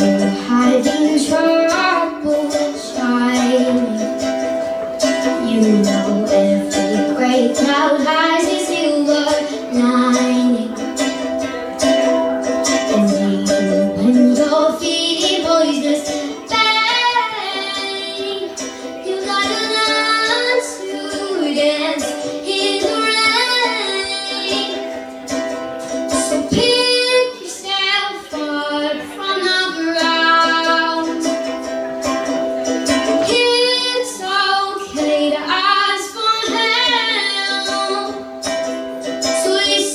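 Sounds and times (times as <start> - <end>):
woman singing slow song: 0.0 - 4.4, 5.2 - 11.0, 12.7 - 24.8, 26.1 - 31.4, 33.2 - 38.2
strummed acoustic string instrument: 0.0 - 39.9.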